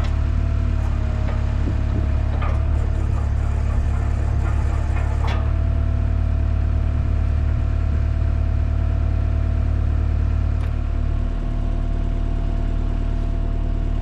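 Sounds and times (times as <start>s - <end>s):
skid steer engine running: 0.0s - 14.0s.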